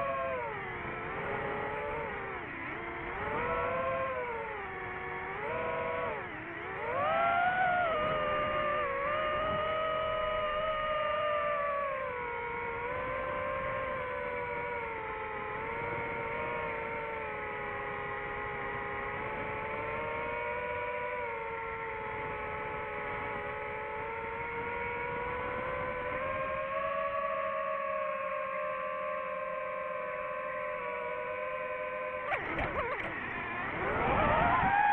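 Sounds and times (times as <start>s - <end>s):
drone propellers whining: 0.0s - 34.9s.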